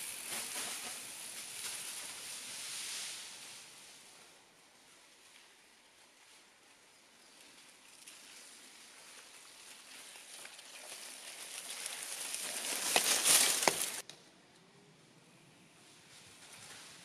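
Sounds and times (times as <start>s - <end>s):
bike tyres crackling over leaves: 0.0s - 14.0s.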